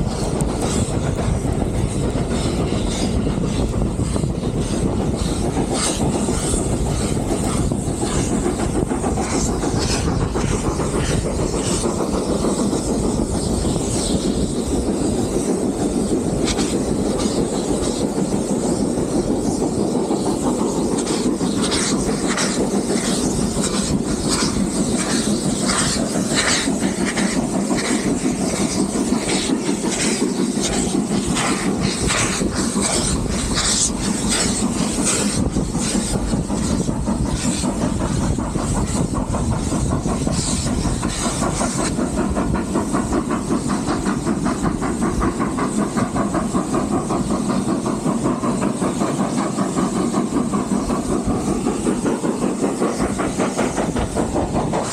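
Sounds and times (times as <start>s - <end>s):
steam engine rhythmic strokes: 0.0s - 54.9s
steam train rumble and hiss: 0.0s - 54.9s.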